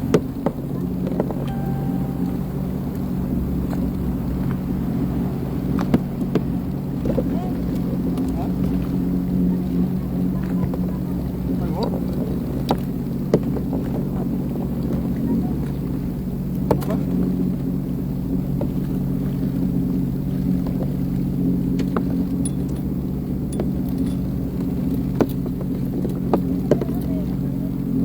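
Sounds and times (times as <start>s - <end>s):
watercraft engine running: 0.0s - 28.0s.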